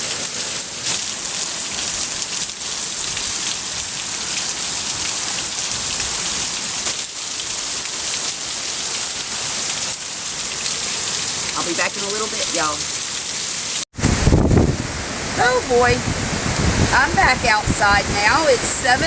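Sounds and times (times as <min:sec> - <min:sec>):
heavy rain pouring: 0:00.0 - 0:19.0
water running off a roof: 0:00.0 - 0:19.0.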